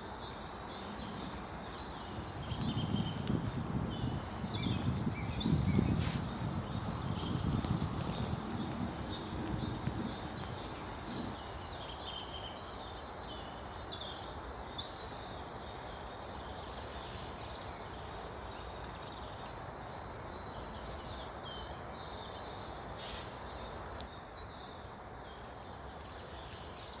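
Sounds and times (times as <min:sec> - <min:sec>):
outdoor background hiss: 0:00.0 - 0:27.0
songbirds chirping: 0:00.0 - 0:27.0.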